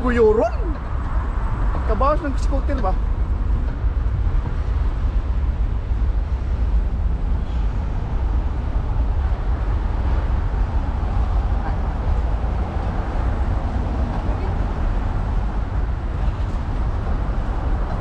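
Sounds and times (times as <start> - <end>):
street traffic hiss: 0.0 - 18.0
wind buffeting microphone: 0.0 - 18.0.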